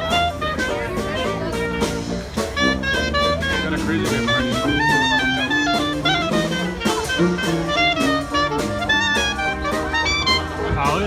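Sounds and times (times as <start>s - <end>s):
live jazz band playing: 0.0s - 11.0s.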